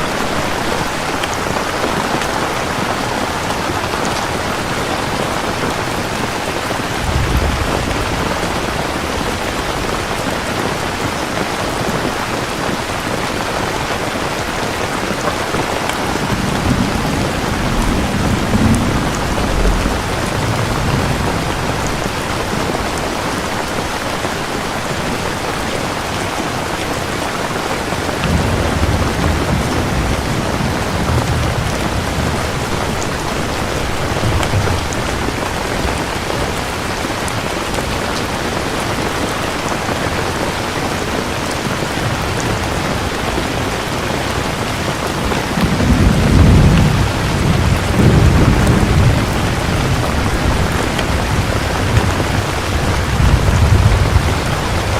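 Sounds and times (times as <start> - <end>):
distant thunder rumbling: 0.0 - 11.2, 15.4 - 23.9, 28.2 - 38.3, 40.4 - 54.9
heavy rain falling: 0.0 - 54.9.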